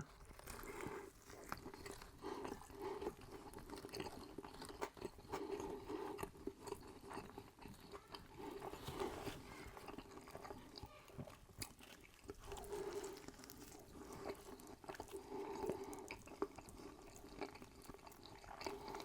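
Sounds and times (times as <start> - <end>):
chewing crunchy fried food: 0.0 - 19.0.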